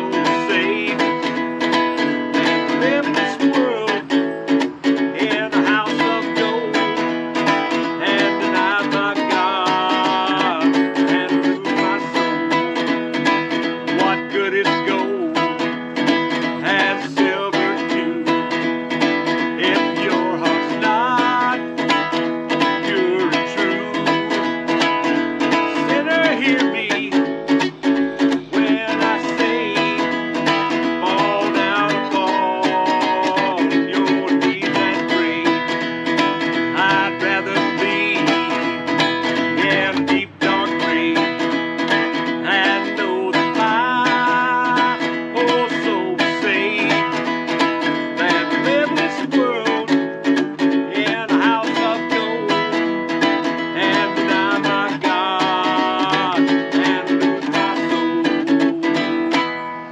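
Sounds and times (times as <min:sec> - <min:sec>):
plucked guitar-like music: 0:00.0 - 0:59.9.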